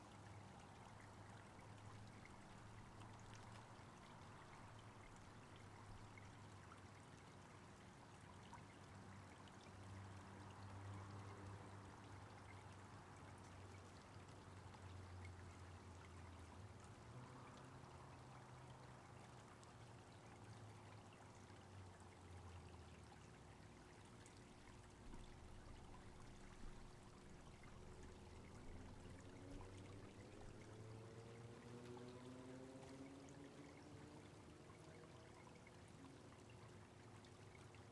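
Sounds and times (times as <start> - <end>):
creek flowing over rocks: 0.0 - 37.9.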